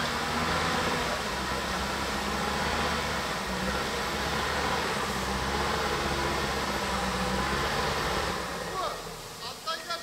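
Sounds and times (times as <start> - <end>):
truck engine running: 0.0 - 9.6.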